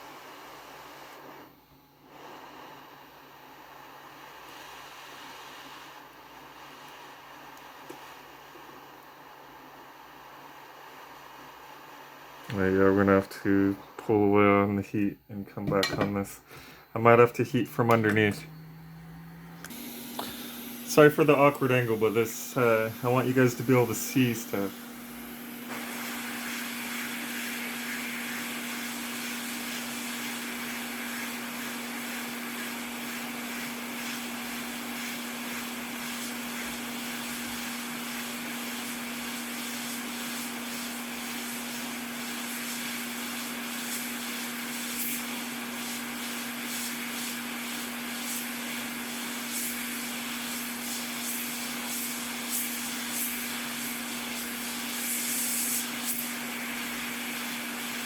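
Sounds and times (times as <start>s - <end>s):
hot-air station blowing hiss: 0.0s - 58.0s.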